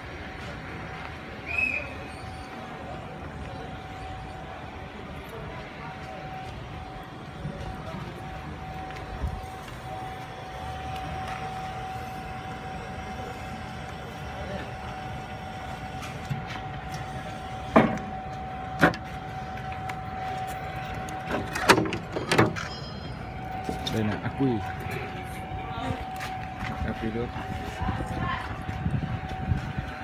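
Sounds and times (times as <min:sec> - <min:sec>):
electric stacker whine and rumble: 0:00.0 - 0:30.0.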